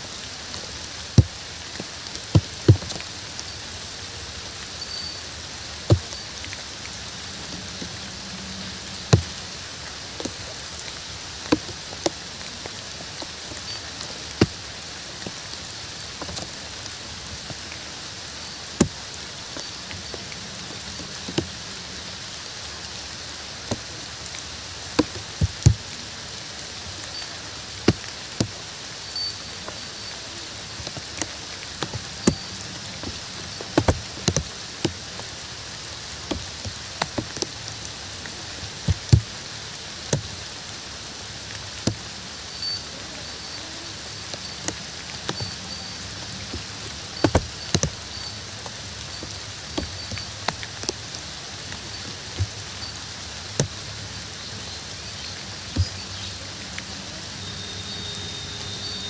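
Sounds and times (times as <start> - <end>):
large raindrops tapping: 0.0 - 59.0
steady rain hiss: 0.0 - 59.0.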